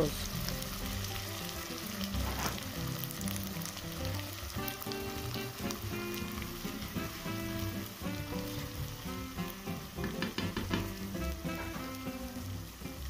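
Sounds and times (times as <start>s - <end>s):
boiling water hissing: 0.0s - 13.0s
lentils sizzling in hot oil: 0.0s - 13.0s.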